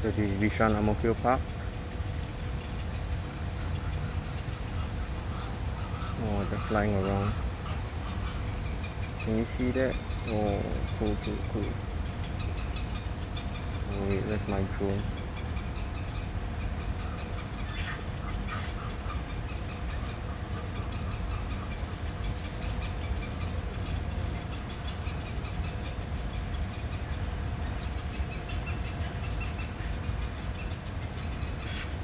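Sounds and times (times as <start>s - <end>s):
faint even hum: 0.0s - 32.0s
low outdoor rumble: 0.0s - 32.0s.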